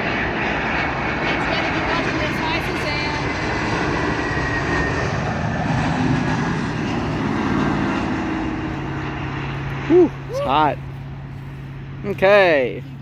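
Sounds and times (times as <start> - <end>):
jet airliner flying overhead: 0.0 - 13.0.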